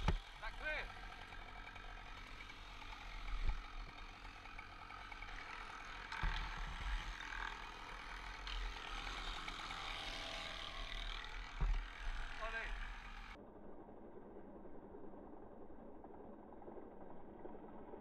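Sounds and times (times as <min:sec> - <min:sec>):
distant crane engine running: 0:00.0 - 0:18.0.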